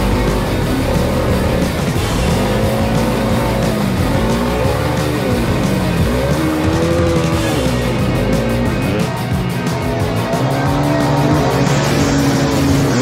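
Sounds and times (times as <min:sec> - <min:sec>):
background music: 0:00.0 - 0:13.0
dirt bike engine revving: 0:00.0 - 0:13.0.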